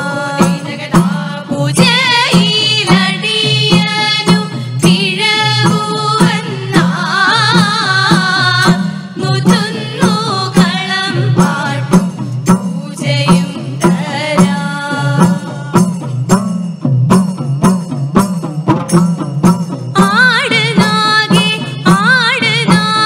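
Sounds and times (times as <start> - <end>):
women singing folk song: 0.0 - 16.0, 20.0 - 23.0
struck percussion beat: 0.0 - 23.0.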